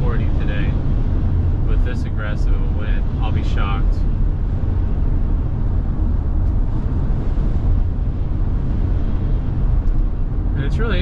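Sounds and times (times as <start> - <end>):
gusting wind: 0.0 - 11.0
road and wind noise in car: 0.0 - 11.0.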